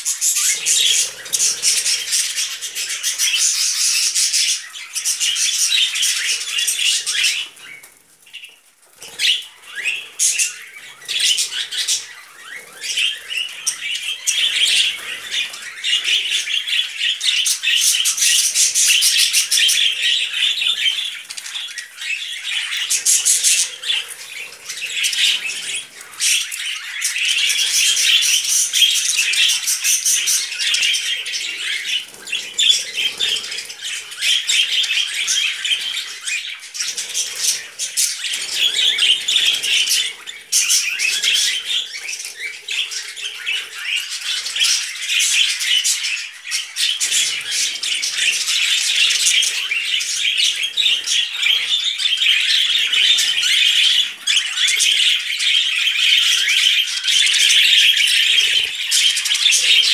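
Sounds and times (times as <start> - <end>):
budgerigars chattering and warbling: 0.0 - 59.9.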